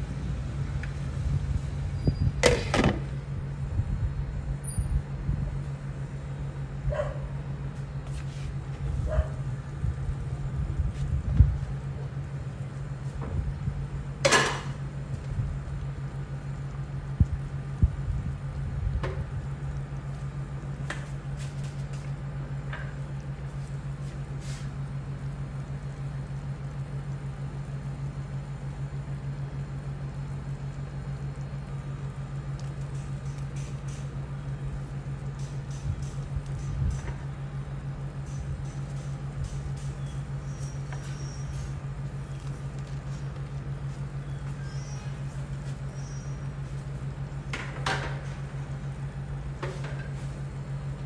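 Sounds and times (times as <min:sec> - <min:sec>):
broth simmering: 0:00.0 - 0:51.0
low hum: 0:00.0 - 0:51.0
soup boiling in a pot: 0:00.0 - 0:51.0.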